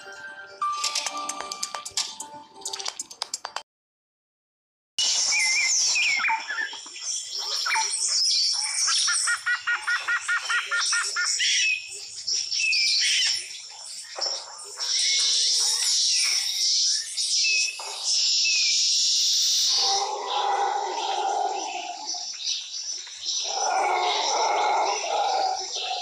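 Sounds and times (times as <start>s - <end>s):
chorus of birds singing: 5.0s - 26.0s.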